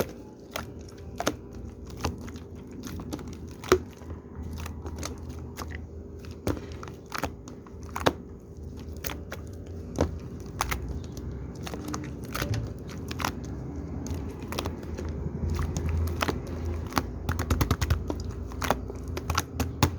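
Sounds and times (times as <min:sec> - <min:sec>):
hands squishing shaving foam: 0:00.0 - 0:19.9
low steady hum: 0:00.0 - 0:19.9.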